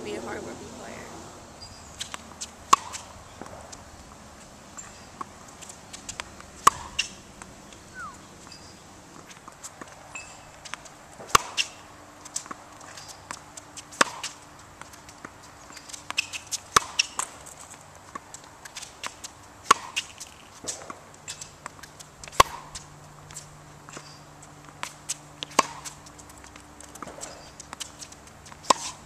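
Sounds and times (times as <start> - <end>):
ball bouncing: 1.6 - 4.2, 4.8 - 8.6, 9.2 - 29.0
footsteps on hard court: 1.6 - 29.0
racket hitting tennis ball: 1.7 - 8.6, 9.2 - 29.0.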